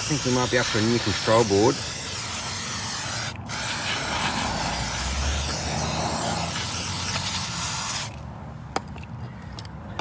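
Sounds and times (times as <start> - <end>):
aerosol spray can hissing: 0.0 - 8.2.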